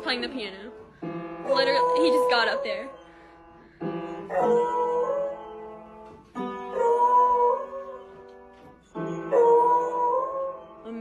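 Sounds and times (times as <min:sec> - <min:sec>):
piano notes struck: 0:00.0 - 0:11.0.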